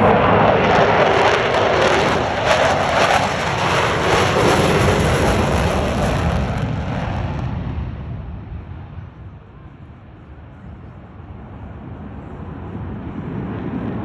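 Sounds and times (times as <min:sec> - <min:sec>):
jet noise overhead: 0:00.0 - 0:14.0.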